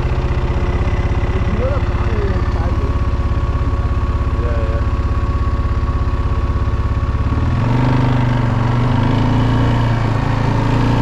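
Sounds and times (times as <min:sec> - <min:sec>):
atv engine idling and revving: 0:00.0 - 0:11.0.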